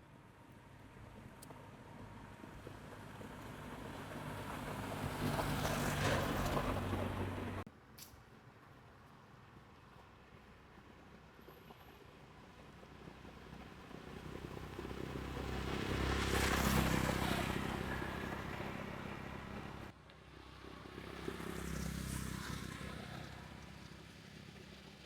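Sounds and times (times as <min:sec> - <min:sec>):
vehicles passing on road: 0:00.2 - 0:07.7, 0:10.7 - 0:25.0.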